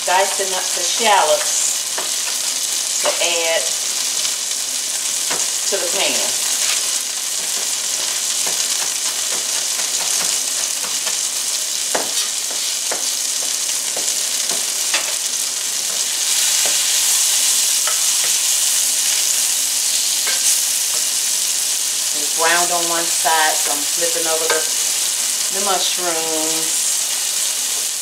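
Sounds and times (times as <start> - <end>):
mushrooms sizzling in a skillet: 0.0 - 28.0.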